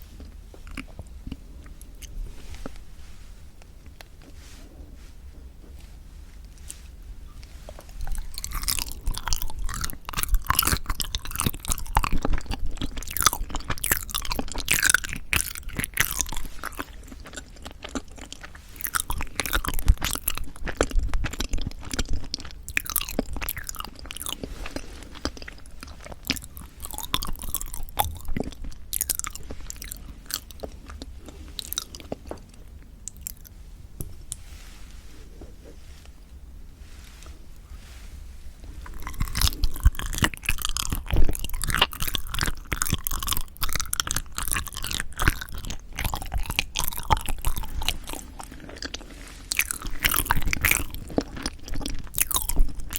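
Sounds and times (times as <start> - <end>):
close-miked chewing and biting: 0.0 - 2.8, 7.7 - 33.5, 38.8 - 52.9.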